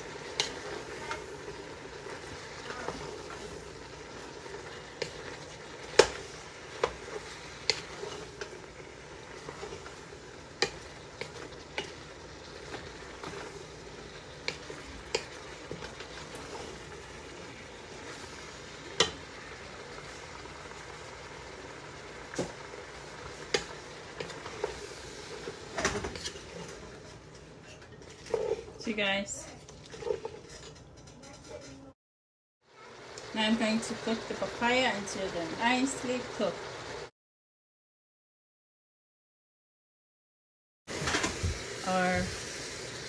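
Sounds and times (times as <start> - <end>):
food sizzling in a pot: 0.0 - 30.7, 32.6 - 37.1, 40.9 - 43.0.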